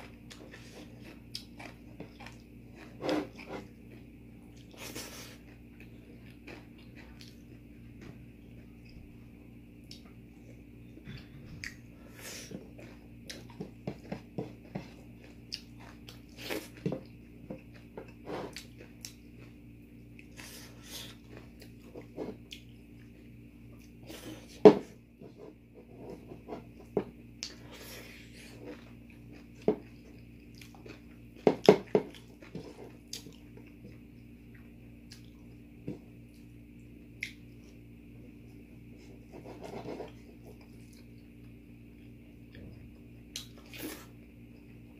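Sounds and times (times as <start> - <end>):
chewing and crunching: 0.0 - 9.1, 9.7 - 44.9
steady low hum: 0.0 - 44.9.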